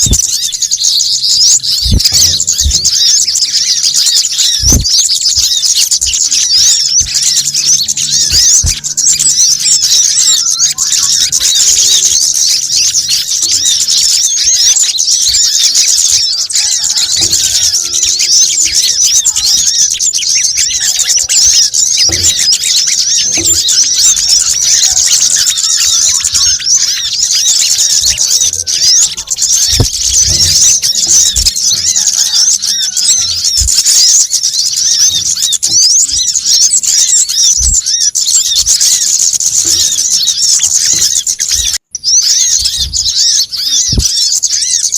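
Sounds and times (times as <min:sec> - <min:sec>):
small birds chattering: 0:00.0 - 0:44.9.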